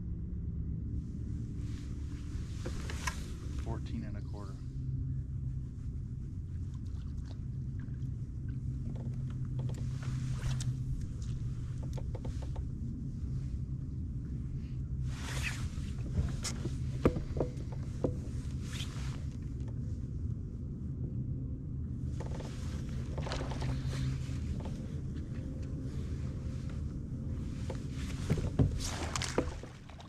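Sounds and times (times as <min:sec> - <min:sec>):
wind and water rumble: 0:00.0 - 0:30.0.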